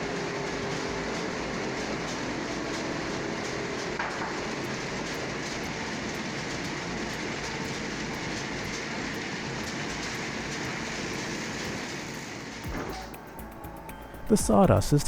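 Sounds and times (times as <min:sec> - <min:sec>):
sawmill machinery clattering: 0:00.0 - 0:15.0.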